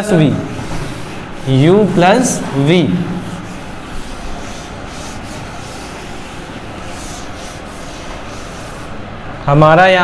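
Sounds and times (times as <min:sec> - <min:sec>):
background hiss: 0:00.0 - 0:09.5
writing strokes on a board: 0:00.4 - 0:09.1.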